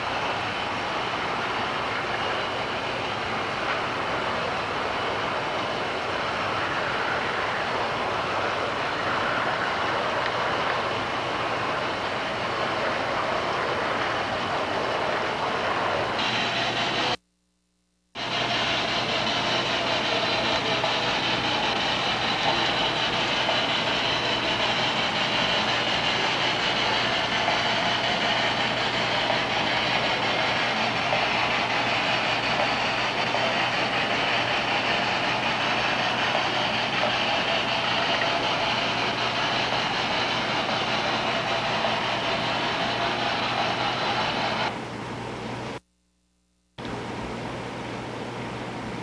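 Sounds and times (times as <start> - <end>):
model train wheels rumbling: 0.0 - 17.2, 18.2 - 44.8.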